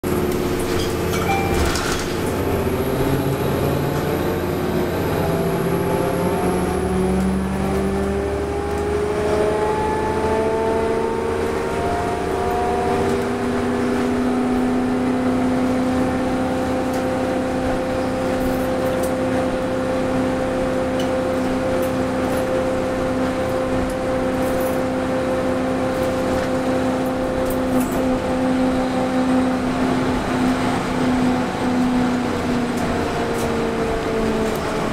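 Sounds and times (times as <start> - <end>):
diesel bus whining: 0.0 - 34.9.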